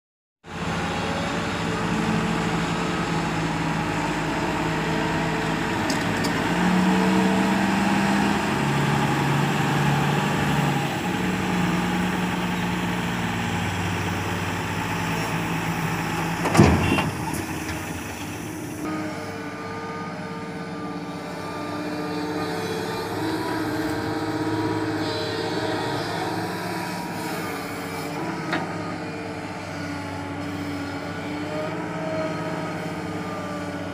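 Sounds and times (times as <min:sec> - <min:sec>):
heavy diesel engines running: 0:00.5 - 0:33.9
excavator digging sand: 0:00.6 - 0:33.9.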